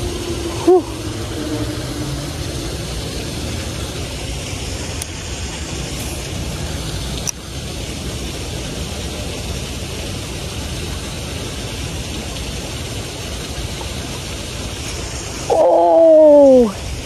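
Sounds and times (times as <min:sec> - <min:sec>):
water pouring over spillway: 0:00.0 - 0:17.0.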